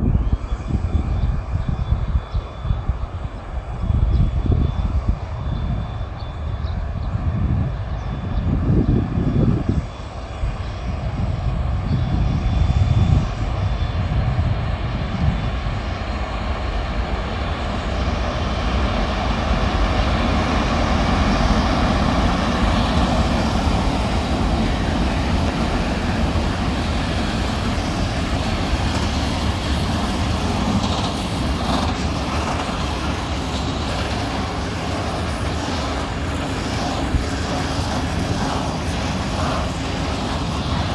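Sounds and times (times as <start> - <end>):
train passing: 0.0 - 40.9.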